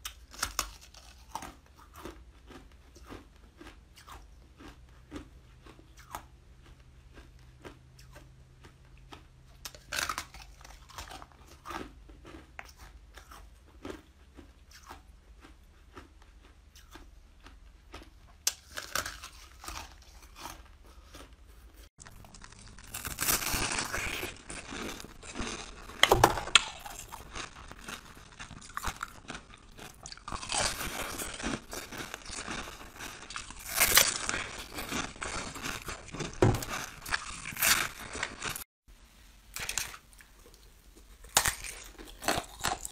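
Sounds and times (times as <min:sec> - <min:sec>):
ice crunching and chewing: 0:00.0 - 0:38.7, 0:39.6 - 0:42.9.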